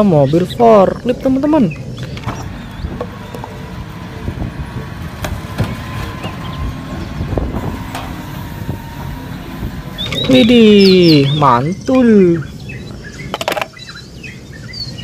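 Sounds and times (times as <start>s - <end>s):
faint steady whine: 0.2s - 14.6s
forklift engine running: 0.2s - 15.0s.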